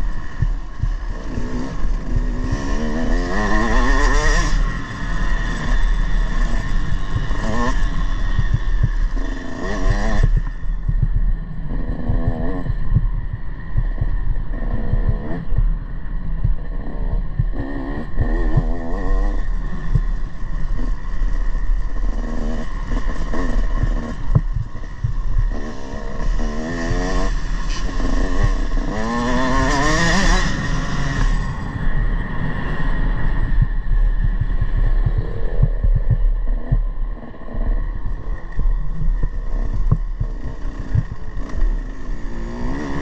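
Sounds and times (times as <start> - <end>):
motocross bike engine revving: 0.0 - 11.0, 11.6 - 12.8, 13.9 - 15.6, 16.6 - 43.0.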